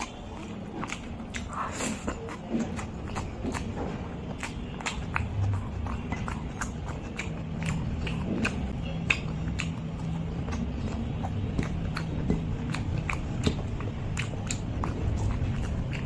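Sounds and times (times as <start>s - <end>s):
wet chewing clicks and smacks: 0.0s - 16.0s.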